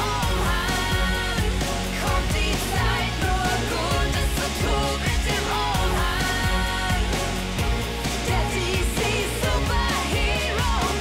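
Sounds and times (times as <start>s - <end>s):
upbeat pop song with vocals: 0.0s - 11.0s.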